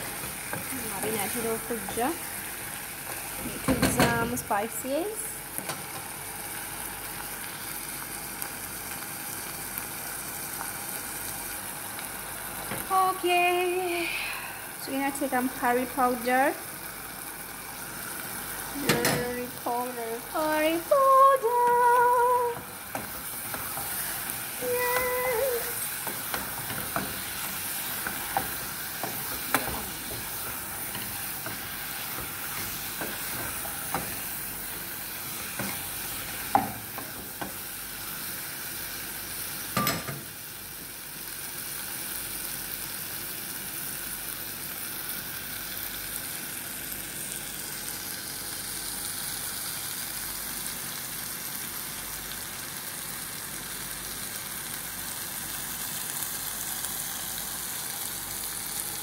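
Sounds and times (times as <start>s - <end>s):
prawns sizzling in a pot: 0.0s - 59.0s.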